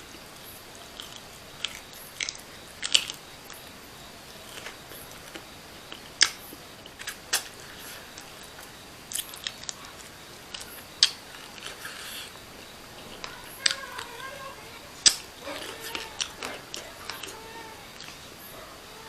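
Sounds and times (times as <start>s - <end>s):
chewing food: 0.0s - 19.0s
crunchy bites: 0.5s - 18.8s.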